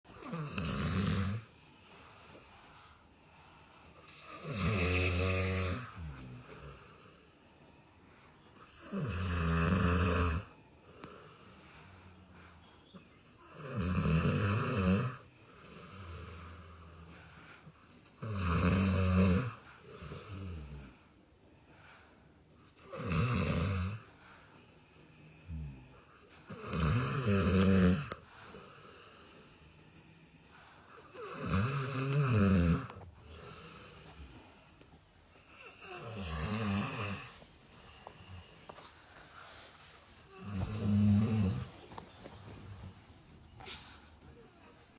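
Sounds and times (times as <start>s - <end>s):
loud snores: 0.2s - 3.0s, 3.9s - 7.4s, 8.5s - 12.4s, 13.2s - 21.1s, 22.6s - 24.1s, 24.8s - 34.8s, 35.4s - 42.0s.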